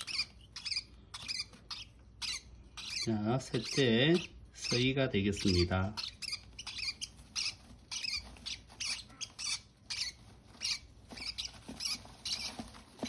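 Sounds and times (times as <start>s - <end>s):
parrot chicks squeaking: 0.0s - 13.0s.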